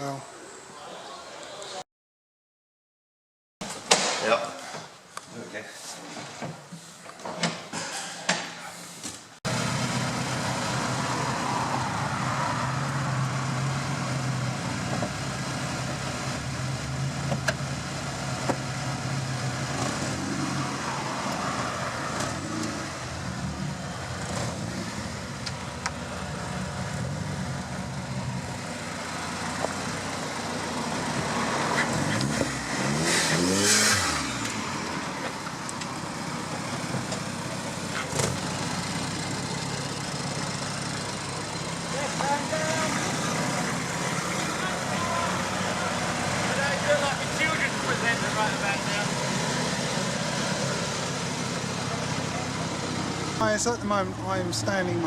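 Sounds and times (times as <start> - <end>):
car engines running: 9.5 - 55.0.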